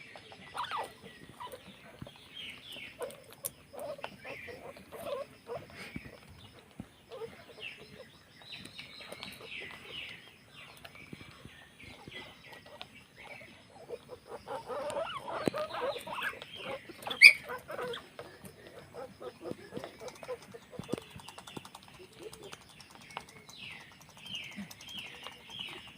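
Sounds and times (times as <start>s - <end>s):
guinea pigs squeaking: 0.0s - 25.9s.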